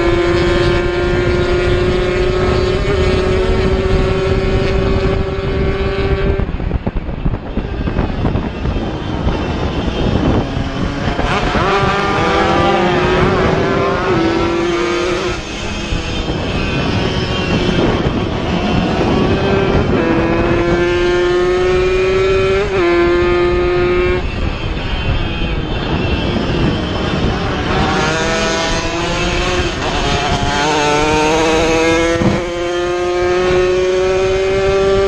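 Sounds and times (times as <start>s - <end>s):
racing motorcycle engines accelerating: 0.0s - 35.0s
wind noise: 0.0s - 35.0s.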